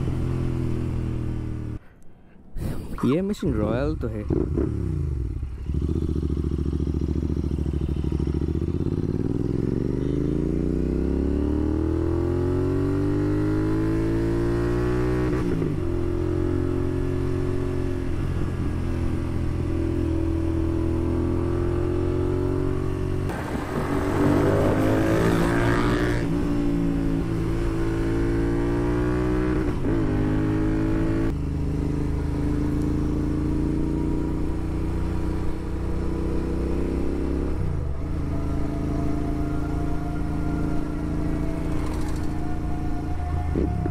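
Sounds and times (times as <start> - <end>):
motorcycle engine accelerating: 3.6 - 43.9.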